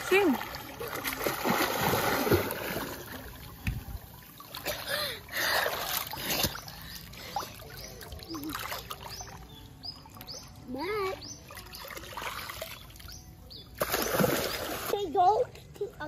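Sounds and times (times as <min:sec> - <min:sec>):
pool water splashing: 0:00.0 - 0:16.0.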